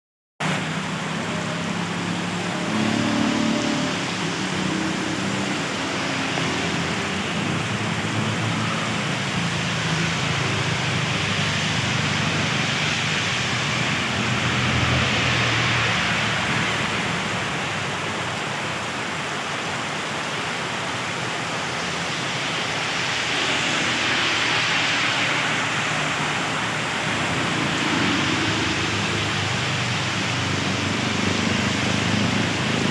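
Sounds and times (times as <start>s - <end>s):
heavy rain: 0.4s - 32.9s.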